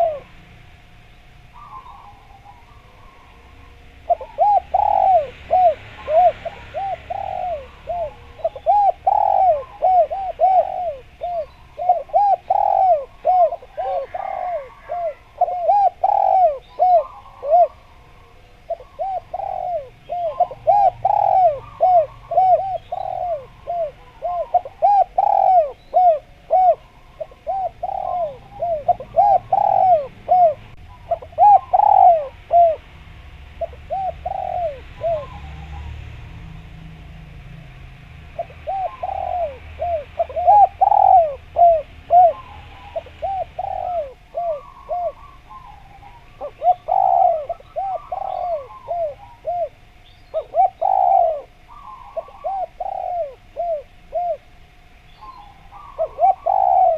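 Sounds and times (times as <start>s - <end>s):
dove cooing: 0.0s - 36.4s, 38.2s - 56.9s.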